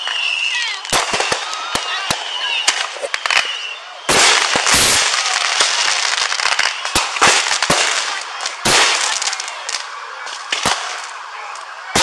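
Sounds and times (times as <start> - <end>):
firework blasts: 0.0 - 12.0
firework pops and crackling: 0.0 - 12.0.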